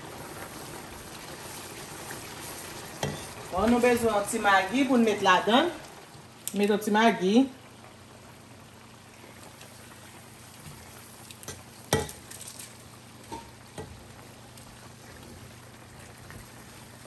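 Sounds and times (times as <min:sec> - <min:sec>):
sauce sizzling in a pan: 0:00.0 - 0:17.0.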